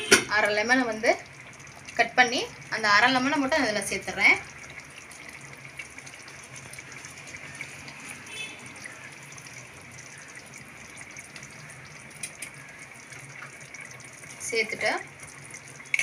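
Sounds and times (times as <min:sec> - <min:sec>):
faint liquid drips: 0:00.0 - 0:16.0.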